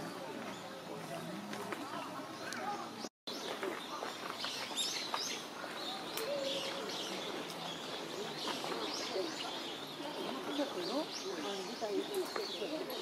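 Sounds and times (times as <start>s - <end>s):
faint voices: 0.0s - 13.0s
small birds chirping: 0.0s - 13.0s.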